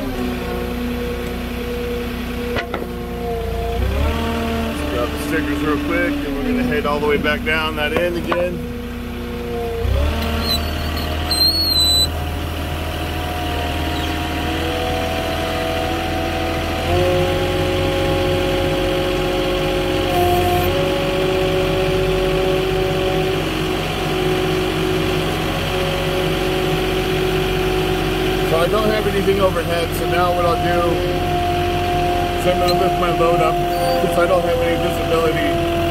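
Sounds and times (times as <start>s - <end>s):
forklift engine running: 0.0s - 35.9s.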